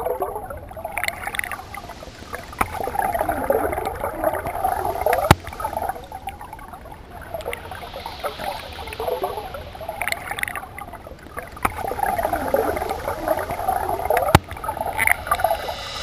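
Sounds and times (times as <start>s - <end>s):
water gurgling and splashing: 0.0s - 16.0s.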